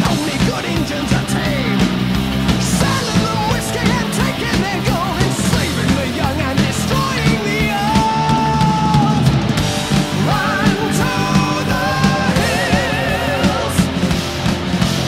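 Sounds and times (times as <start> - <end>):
rock guitars and drums: 0.0 - 15.0.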